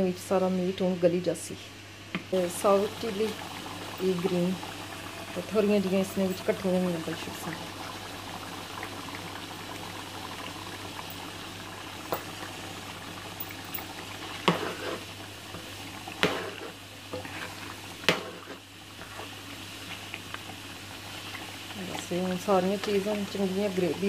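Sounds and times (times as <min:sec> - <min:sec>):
curry bubbling in a pot: 0:02.3 - 0:24.0.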